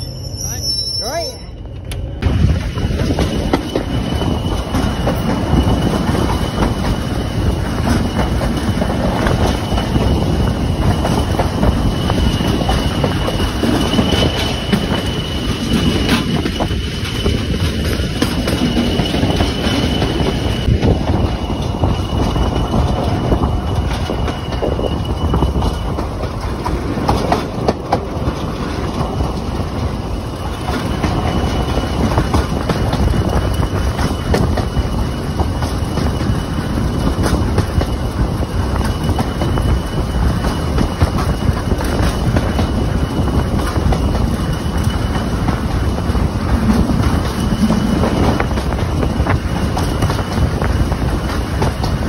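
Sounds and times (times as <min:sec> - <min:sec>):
train wheels clattering on rails: 0:01.8 - 0:52.0.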